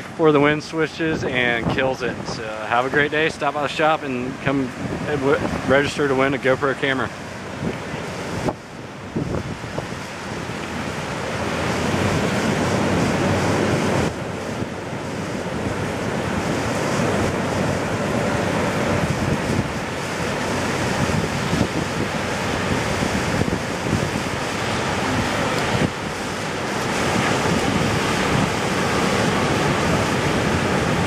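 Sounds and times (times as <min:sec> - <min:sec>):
ocean waves breaking: 0:00.0 - 0:31.0
wind buffeting microphone: 0:00.0 - 0:31.0.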